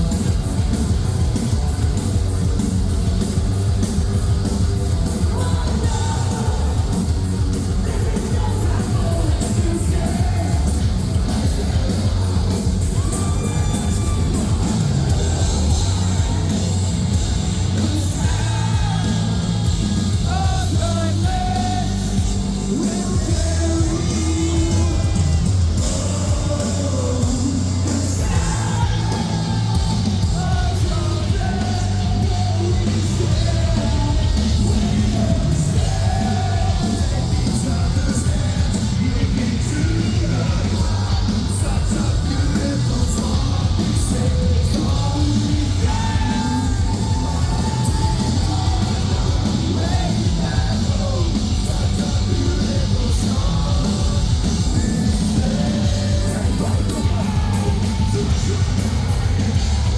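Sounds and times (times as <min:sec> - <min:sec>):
live metal band playing: 0:00.0 - 0:59.9
melodic sung vocals: 0:00.0 - 0:59.9.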